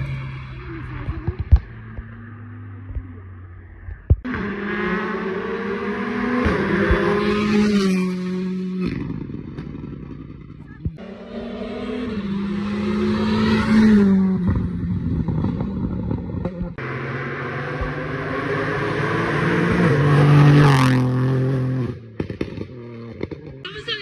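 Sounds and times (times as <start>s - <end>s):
rally cars passing at full throttle: 0.0s - 23.6s.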